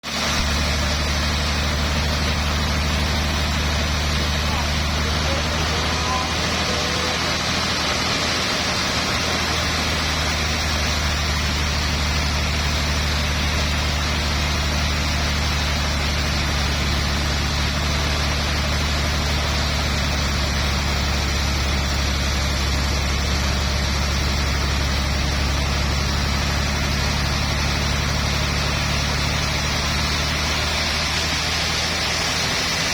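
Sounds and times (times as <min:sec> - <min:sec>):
engine humming steadily: 0:00.0 - 0:32.9.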